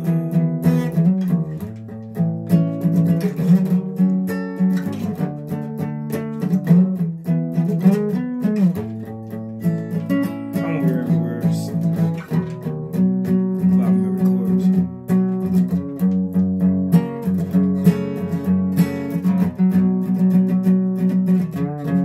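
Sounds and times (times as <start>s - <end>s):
guitar playing: 0.0s - 22.0s.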